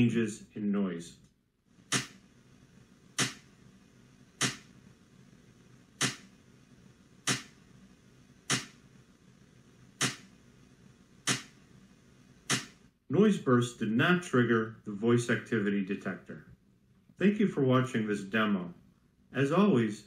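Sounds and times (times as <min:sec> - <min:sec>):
faint low background noise: 0:00.0 - 0:20.0.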